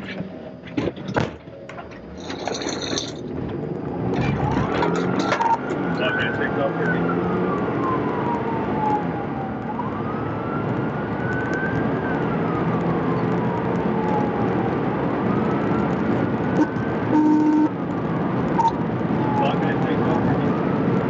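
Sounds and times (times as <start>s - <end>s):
road and engine noise: 0.0s - 21.0s
police siren wailing: 3.5s - 21.0s.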